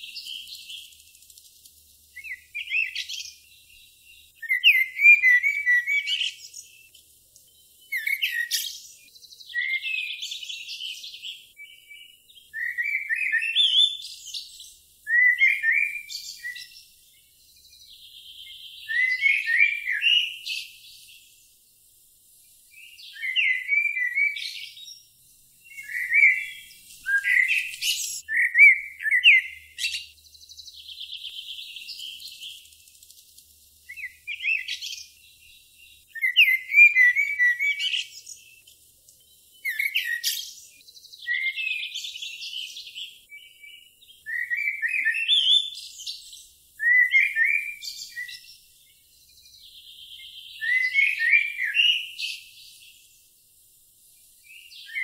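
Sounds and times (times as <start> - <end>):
songbird singing high phrases: 0.0 - 55.0.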